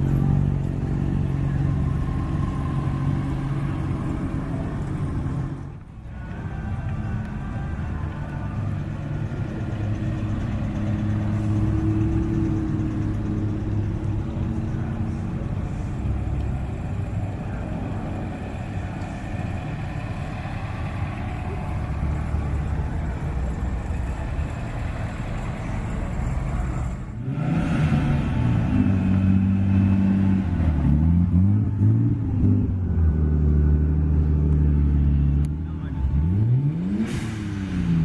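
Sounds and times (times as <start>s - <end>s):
cars driving slowly past: 0.0s - 38.0s
loud engine: 0.0s - 38.0s.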